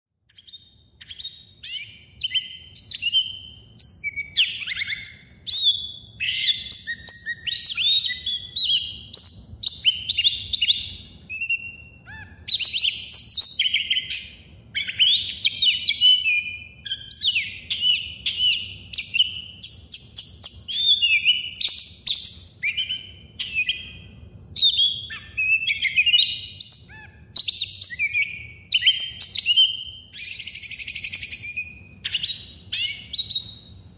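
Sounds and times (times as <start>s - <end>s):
birds chirping and singing: 0.3s - 33.9s
faint low hum: 0.3s - 33.9s.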